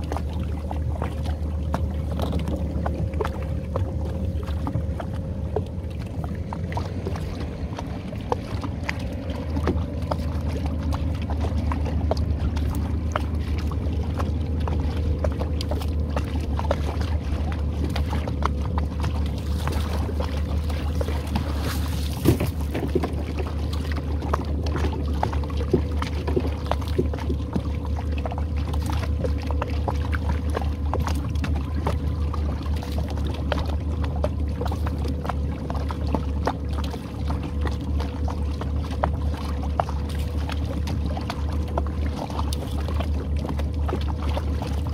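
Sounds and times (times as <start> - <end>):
outboard motor idling: 0.0 - 44.9.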